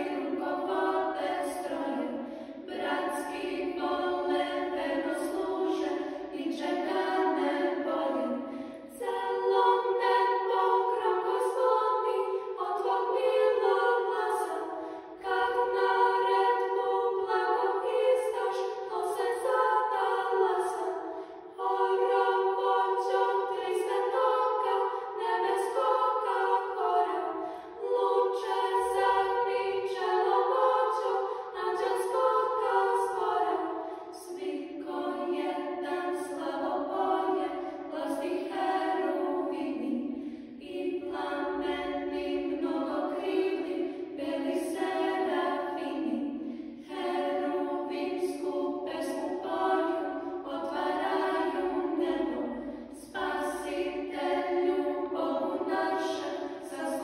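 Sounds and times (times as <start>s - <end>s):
children's choir singing a cappella: 0.0s - 57.0s.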